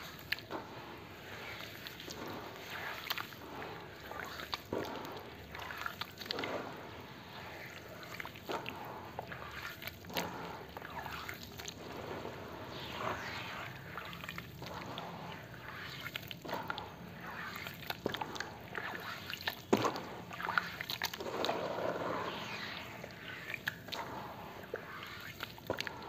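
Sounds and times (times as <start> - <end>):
wet sand squelching and sloshing: 0.0 - 26.0.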